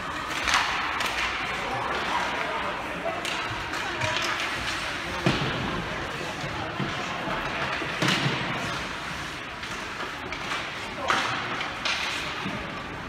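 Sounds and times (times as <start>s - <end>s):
noisy background: 0.0s - 13.0s.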